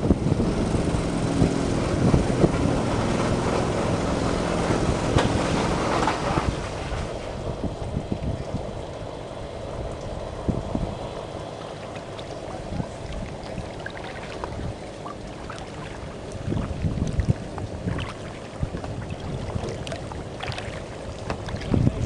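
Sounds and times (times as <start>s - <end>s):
wind buffeting microphone: 0.0s - 22.0s
paddle splashing water: 1.3s - 22.0s.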